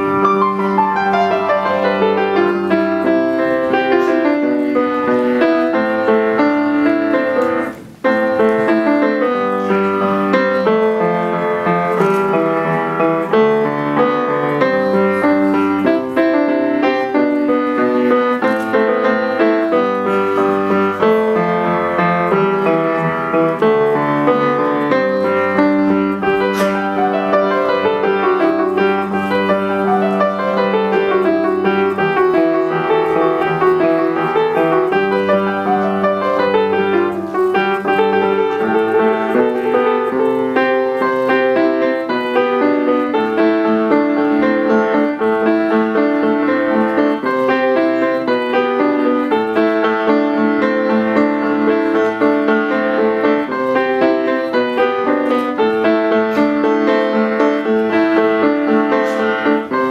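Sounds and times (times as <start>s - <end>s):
grand piano solo: 0.0s - 59.9s.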